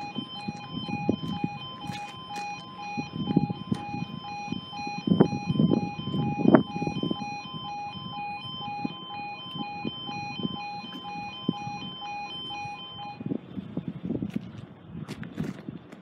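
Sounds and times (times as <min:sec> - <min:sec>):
level crossing two-tone alarm: 0:00.0 - 0:13.3.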